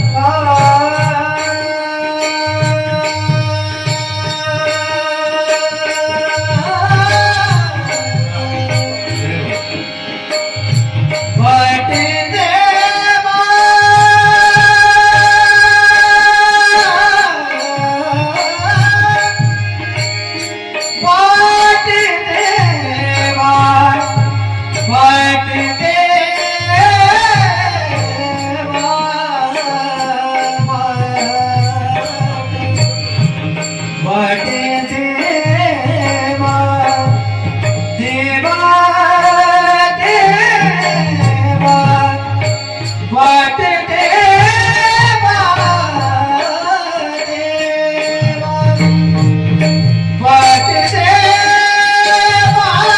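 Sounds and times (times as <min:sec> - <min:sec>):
tabla playing a rhythm: 0:00.0 - 0:52.9.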